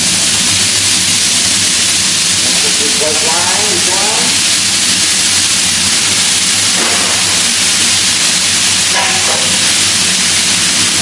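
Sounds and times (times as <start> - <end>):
liquid hissing into steam: 0.0 - 11.0
rice sizzling on griddle: 0.0 - 11.0.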